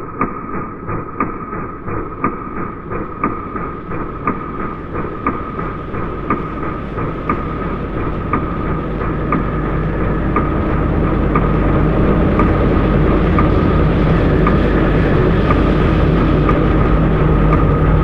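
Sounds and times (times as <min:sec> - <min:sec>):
low mechanical rumble: 0:00.8 - 0:18.0.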